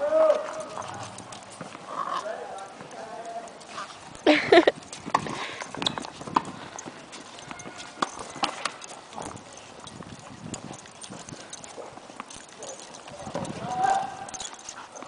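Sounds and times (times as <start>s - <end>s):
claws clicking on hard court: 0.2s - 15.0s.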